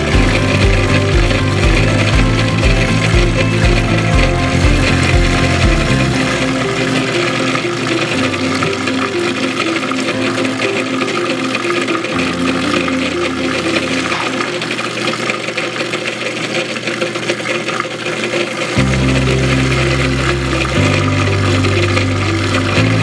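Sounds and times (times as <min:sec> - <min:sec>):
background music: 0:00.0 - 0:15.1, 0:18.3 - 0:23.0
food processor motor running: 0:00.0 - 0:23.0.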